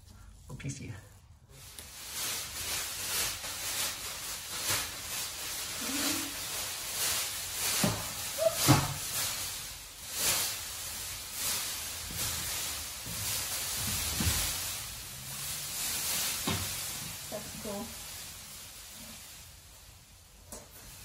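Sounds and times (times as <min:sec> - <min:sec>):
plastic sheeting rustling: 0:00.0 - 0:21.0.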